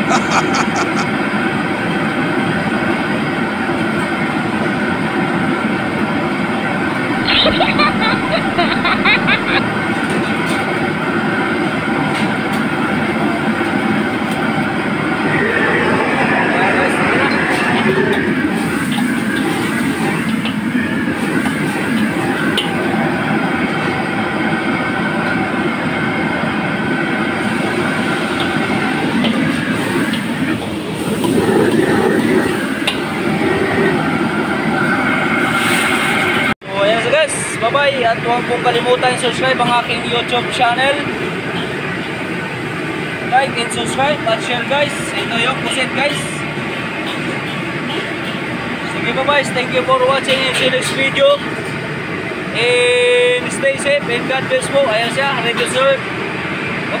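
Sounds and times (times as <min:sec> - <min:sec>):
gas burner and ventilation rushing: 0:00.0 - 0:57.0.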